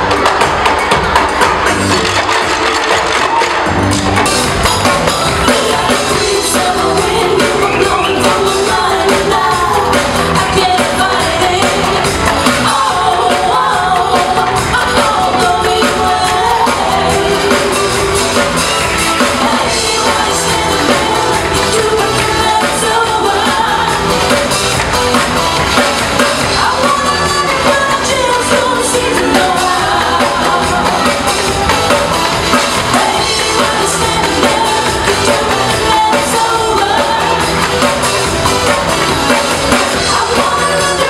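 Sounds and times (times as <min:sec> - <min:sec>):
person singing: 0:05.1 - 0:41.0.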